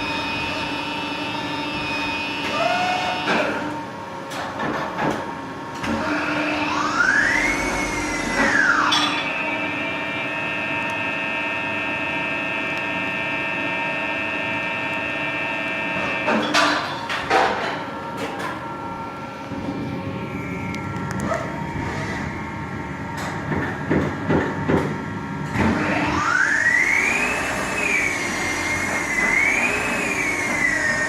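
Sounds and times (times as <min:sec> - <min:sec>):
lathe whine: 0:00.0 - 0:04.0, 0:05.8 - 0:16.4, 0:18.1 - 0:23.4, 0:25.0 - 0:31.0.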